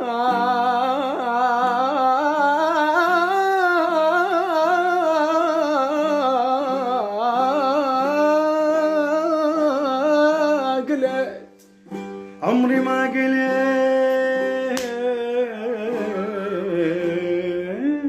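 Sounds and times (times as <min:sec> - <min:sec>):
person singing melismatic phrase: 0:00.0 - 0:11.5, 0:12.4 - 0:18.0.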